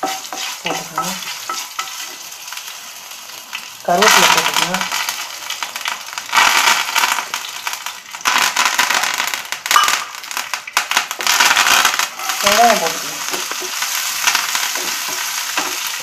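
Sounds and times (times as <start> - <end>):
hot oil spluttering and crackling: 0.0 - 16.0
shallots sizzling in oil: 0.0 - 16.0.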